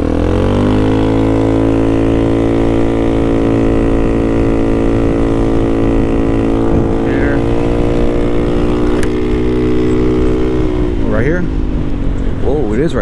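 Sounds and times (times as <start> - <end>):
motorcycle engine pulling away: 0.0 - 12.9.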